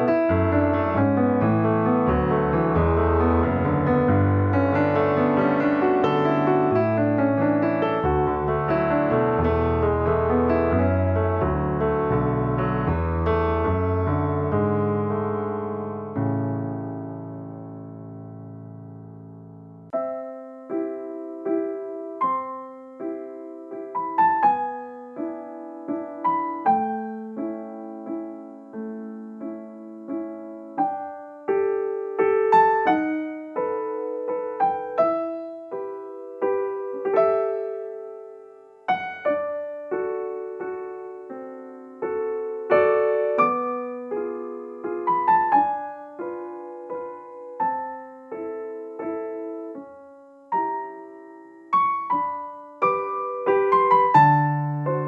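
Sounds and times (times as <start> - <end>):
solo piano melody: 0.0 - 55.0.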